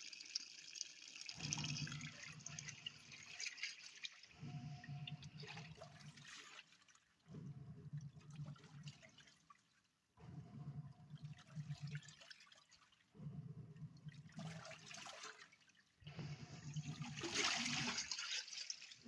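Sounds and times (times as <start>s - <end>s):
washing machine motor hum: 1.2s - 19.0s.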